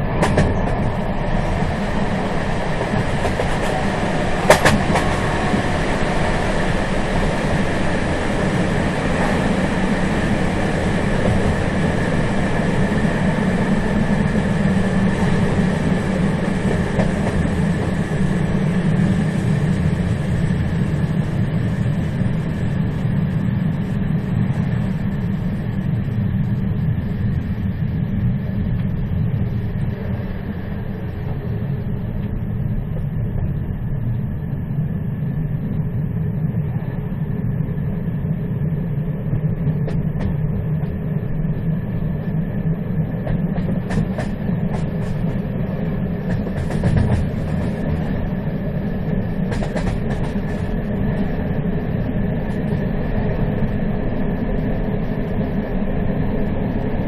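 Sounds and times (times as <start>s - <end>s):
faint steady whine: 0.0s - 57.0s
train wheels rumbling on rails: 0.0s - 57.0s.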